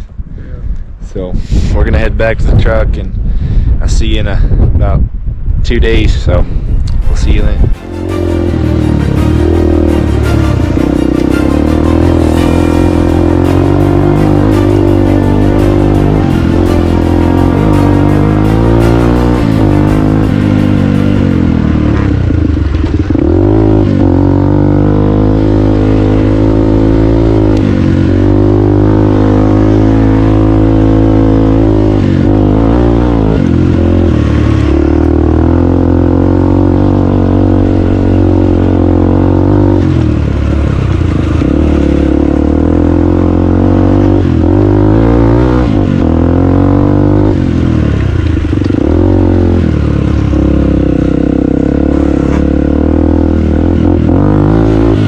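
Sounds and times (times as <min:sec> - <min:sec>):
dirt bike engine revving: 0:07.8 - 0:55.0.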